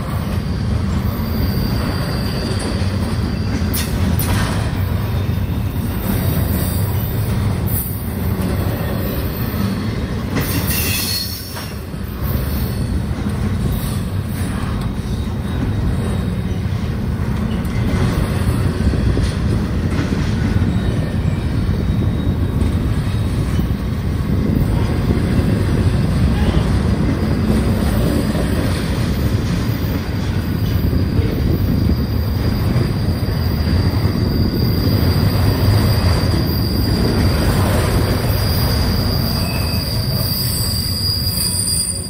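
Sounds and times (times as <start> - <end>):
freight train wheels rumbling on rails: 0.0 - 42.0.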